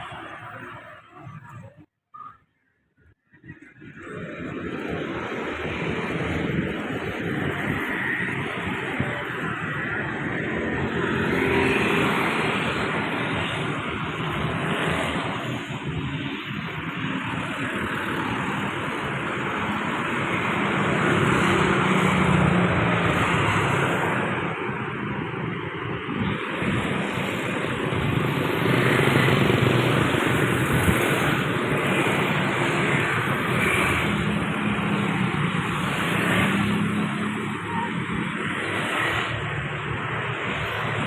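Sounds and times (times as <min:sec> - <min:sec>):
vehicles passing with engine rumble: 0:03.0 - 0:41.0.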